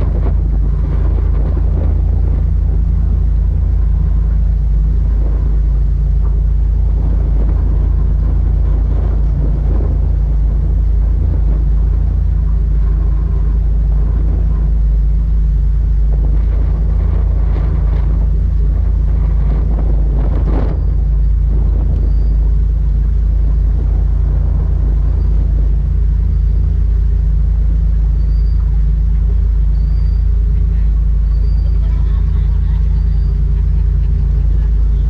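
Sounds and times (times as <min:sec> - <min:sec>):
motorboat engine rumbling: 0:00.0 - 0:35.0.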